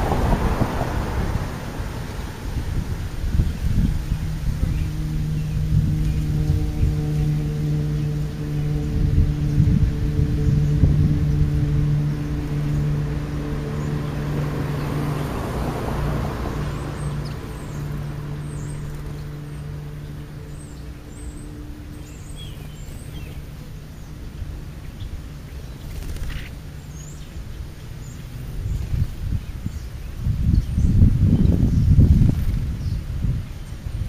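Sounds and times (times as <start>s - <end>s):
motor engine humming: 0.0s - 29.9s
small birds chirping: 0.0s - 34.0s.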